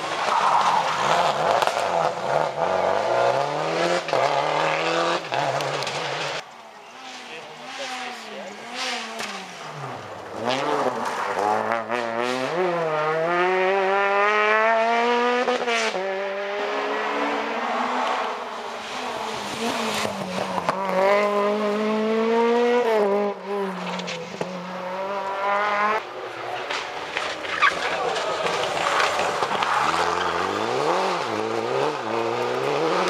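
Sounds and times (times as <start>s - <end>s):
rally car engines at full throttle: 0.0s - 33.0s.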